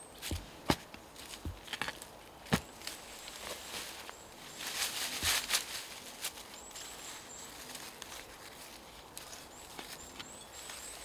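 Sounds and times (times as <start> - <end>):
rustles and scrapes on forest floor: 0.1 - 11.0.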